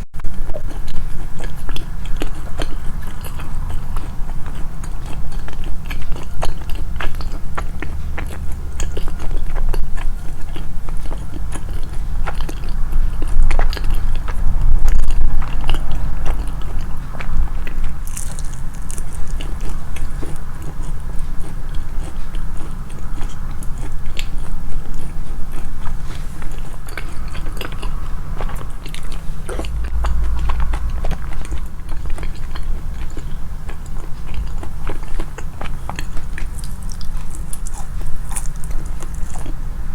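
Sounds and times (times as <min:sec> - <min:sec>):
chewing and crunching food: 0:00.2 - 0:39.9.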